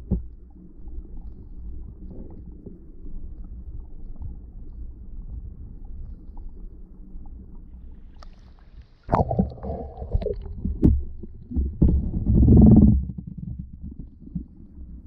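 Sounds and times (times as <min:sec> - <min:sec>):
low underwater rumble: 0:00.0 - 0:15.0
muffled rush of water: 0:00.0 - 0:15.0.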